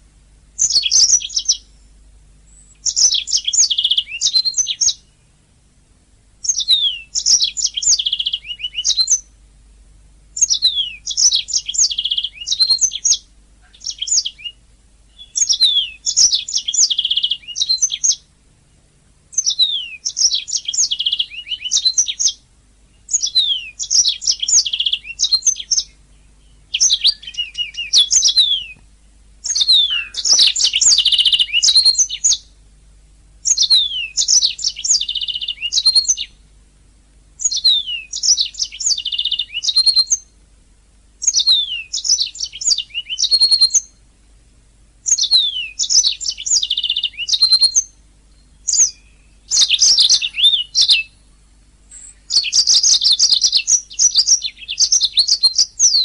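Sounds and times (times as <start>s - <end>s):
canary singing trills: 0.6s - 5.4s, 6.4s - 9.4s, 10.3s - 18.4s, 19.3s - 32.6s, 33.3s - 36.5s, 37.4s - 40.5s, 41.1s - 44.1s, 45.0s - 56.0s.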